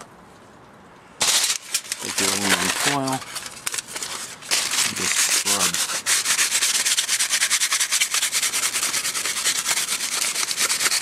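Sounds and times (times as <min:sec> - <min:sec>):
foil scrubbing chrome: 0:01.2 - 0:11.0.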